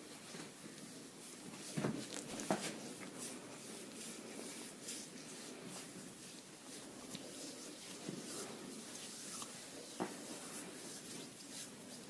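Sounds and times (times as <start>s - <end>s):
hands rubbing skin: 1.6s - 12.0s.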